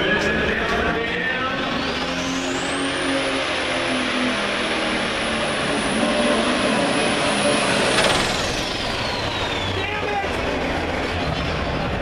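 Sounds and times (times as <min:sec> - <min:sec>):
diesel engine at full power: 0:00.0 - 0:12.0
turbocharger whine: 0:00.0 - 0:12.0.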